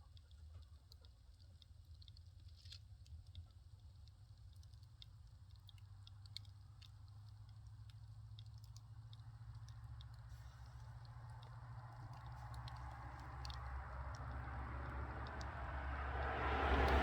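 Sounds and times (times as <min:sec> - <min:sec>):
fire crackling and popping: 0:01.6 - 0:15.6.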